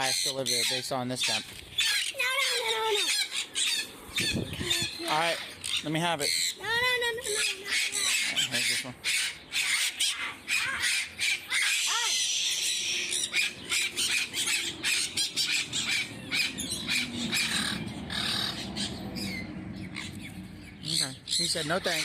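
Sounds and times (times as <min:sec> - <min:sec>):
parrots squawking: 0:00.0 - 0:22.0.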